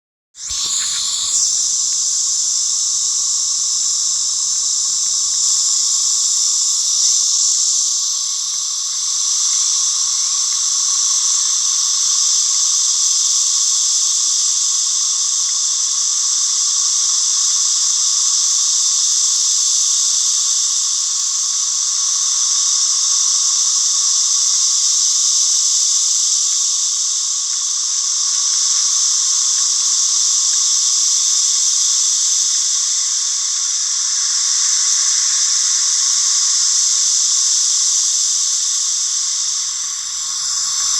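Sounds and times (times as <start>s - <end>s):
cicadas droning: 0.4s - 40.9s.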